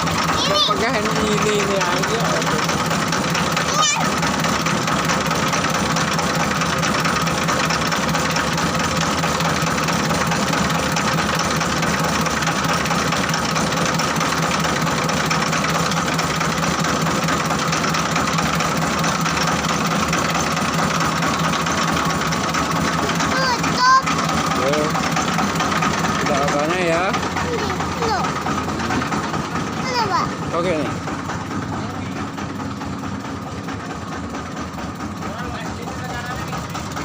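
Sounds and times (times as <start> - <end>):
diesel engine running: 0.0 - 37.0
mill mechanical noise: 0.0 - 37.0.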